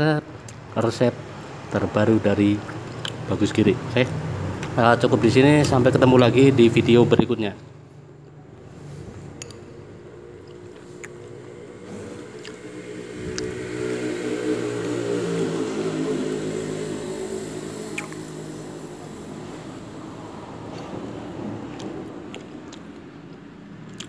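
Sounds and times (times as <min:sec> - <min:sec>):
vehicle engine passing: 0:00.8 - 0:23.8.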